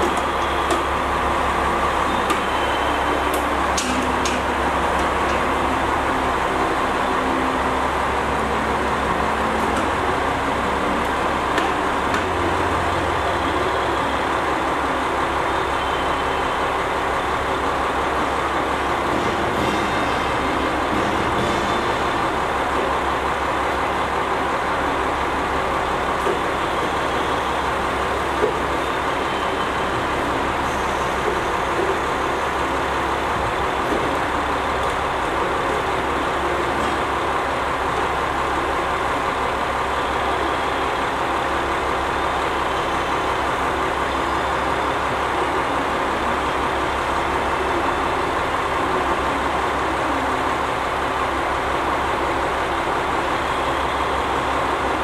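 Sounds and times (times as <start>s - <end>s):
diesel railcar engine idling: 0.0s - 55.0s.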